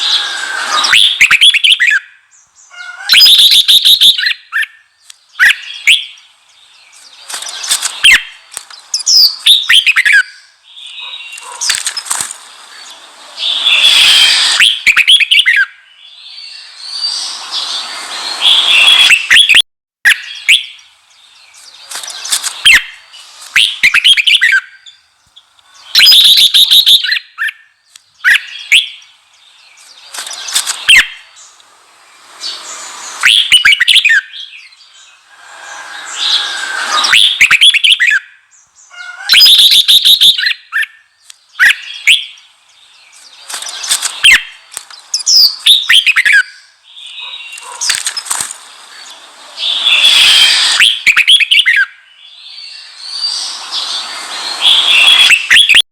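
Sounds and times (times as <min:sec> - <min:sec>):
bird singing warbled phrases: 0:00.0 - 0:55.8.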